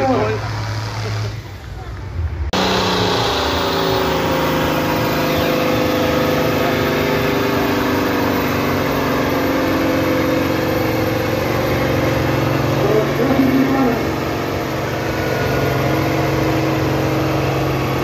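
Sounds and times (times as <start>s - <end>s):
tractor engine running hard: 0.0s - 18.0s.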